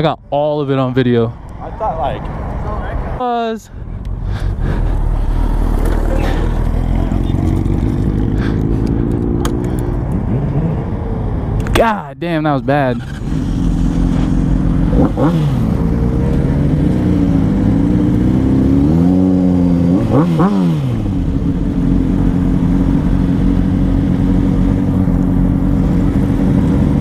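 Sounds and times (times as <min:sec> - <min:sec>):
motorcycle engine idling and revving: 0:01.4 - 0:27.0.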